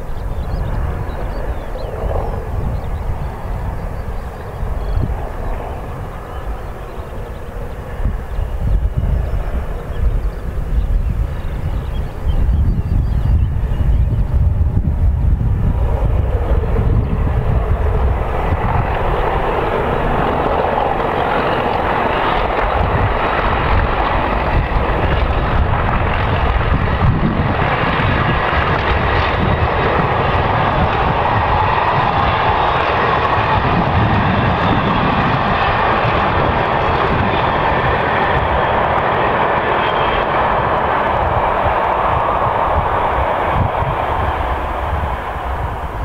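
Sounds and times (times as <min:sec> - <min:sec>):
diesel locomotive engines droning: 0:00.0 - 0:46.0.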